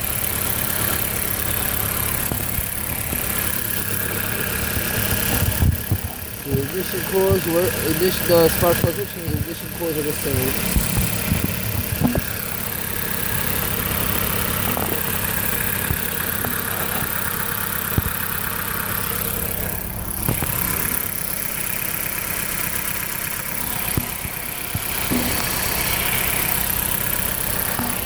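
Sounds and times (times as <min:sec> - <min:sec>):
car engine idling: 0:00.0 - 0:28.0
sharp ticks: 0:00.0 - 0:28.0.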